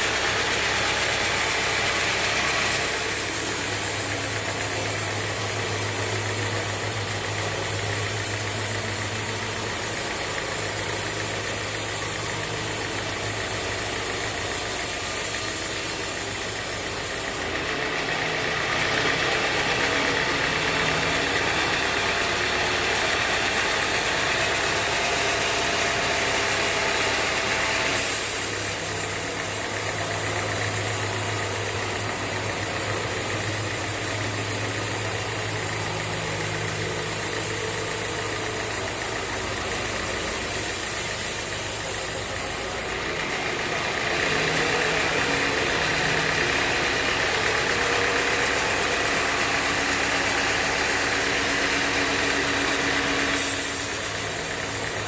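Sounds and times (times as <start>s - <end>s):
saw blade cutting log: 0.0s - 55.0s
sawmill engine hum: 0.0s - 55.0s.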